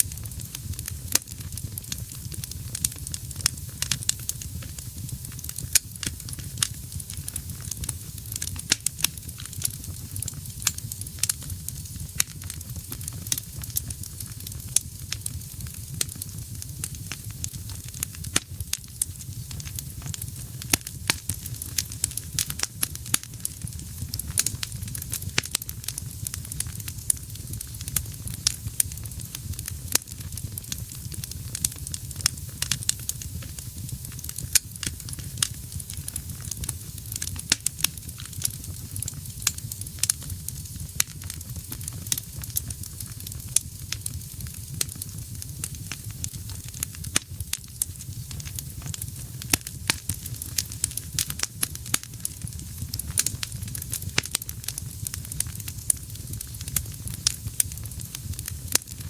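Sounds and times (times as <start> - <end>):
flames rumbling and hissing: 0.0 - 59.0
logs crackling and popping: 0.0 - 59.0.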